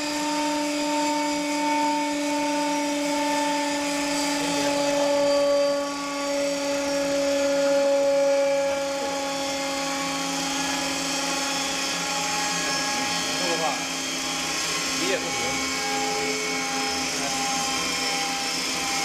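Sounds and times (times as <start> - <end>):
centrifuge whine: 0.0 - 19.0.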